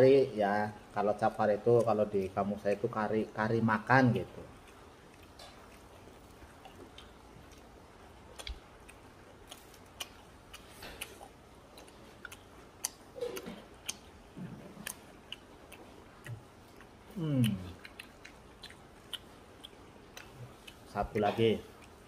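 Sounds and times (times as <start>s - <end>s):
person chewing: 1.1s - 22.0s.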